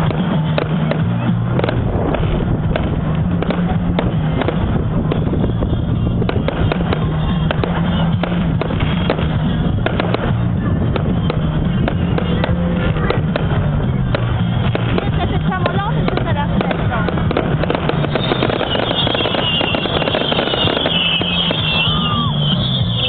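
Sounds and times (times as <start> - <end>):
fireworks bangs and crackling: 0.0 - 23.0
music playing: 0.0 - 23.0.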